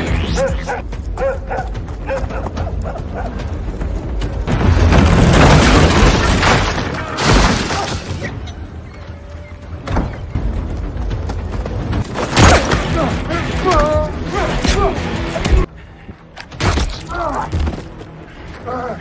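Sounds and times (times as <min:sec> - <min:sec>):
action film music: 0:00.0 - 0:19.0.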